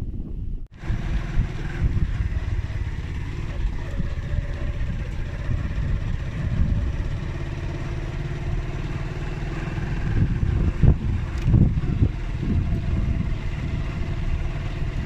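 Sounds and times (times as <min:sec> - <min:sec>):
vehicle engine running: 0:00.7 - 0:15.0.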